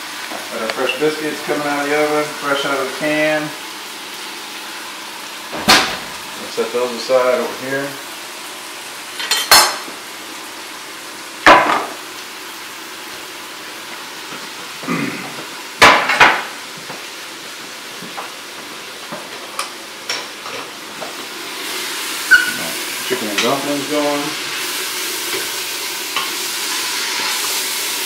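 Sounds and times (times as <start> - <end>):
food sizzling frying: 0.0 - 28.0.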